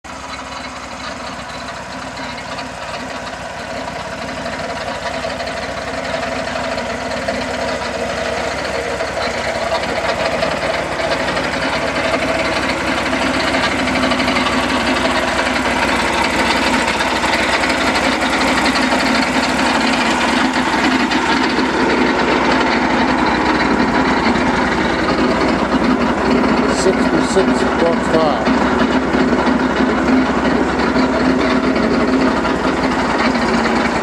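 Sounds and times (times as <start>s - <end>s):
sawmill engine running: 0.0s - 34.0s.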